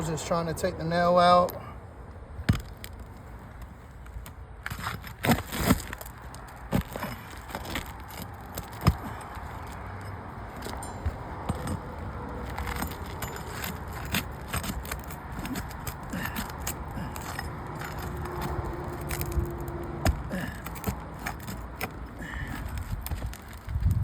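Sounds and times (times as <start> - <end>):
hand tools clicking and scraping: 0.0 - 24.0.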